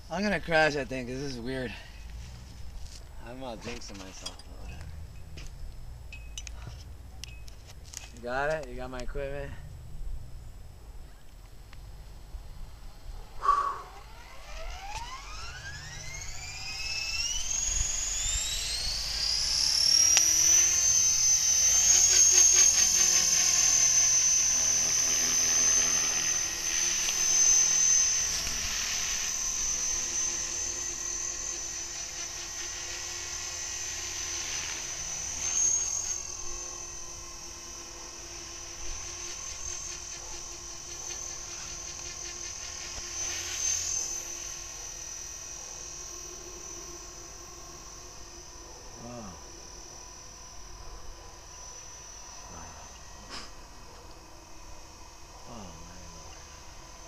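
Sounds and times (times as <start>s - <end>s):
model helicopter whine: 0.0s - 57.0s.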